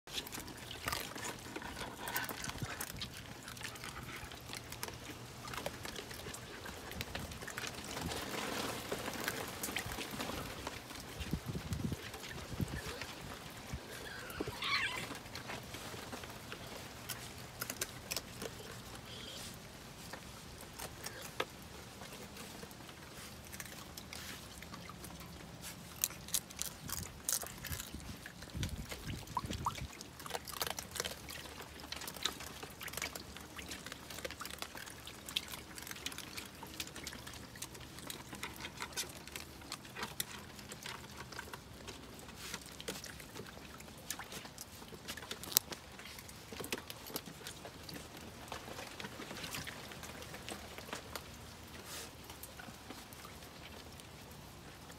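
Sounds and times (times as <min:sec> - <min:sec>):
water splashing and trickling: 0:00.0 - 0:54.9.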